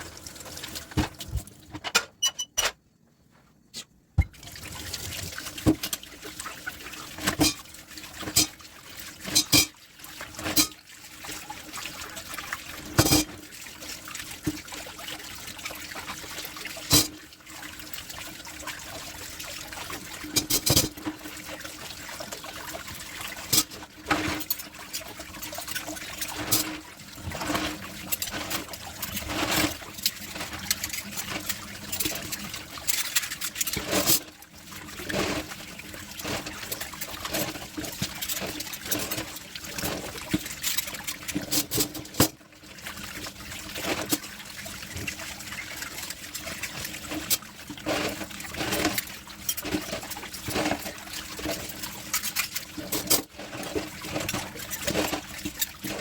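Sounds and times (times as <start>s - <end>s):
tap water running and splashing: 0.0s - 1.8s, 4.2s - 56.0s.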